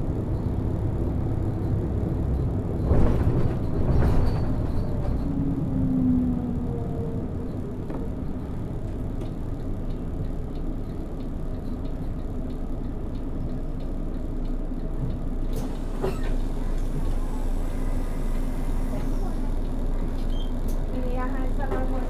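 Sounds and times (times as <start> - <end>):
diesel bus engine rumble: 0.0 - 22.0.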